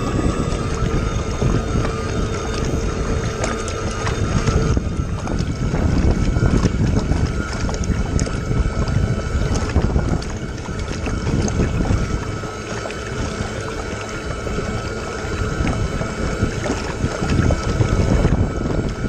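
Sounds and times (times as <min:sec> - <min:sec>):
electric motor whine: 0:00.0 - 0:19.0
water slapping against boat hull: 0:00.0 - 0:19.0.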